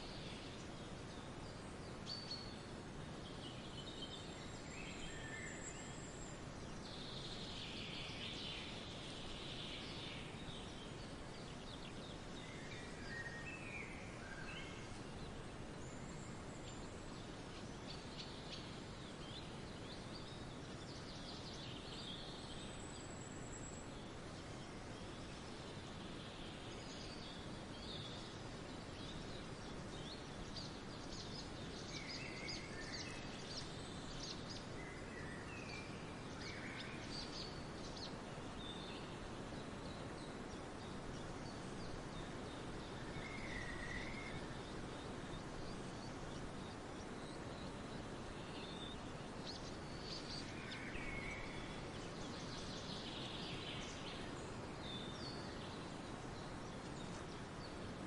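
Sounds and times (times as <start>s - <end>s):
background hiss: 0.0s - 58.0s
songbirds chirping: 0.0s - 58.0s.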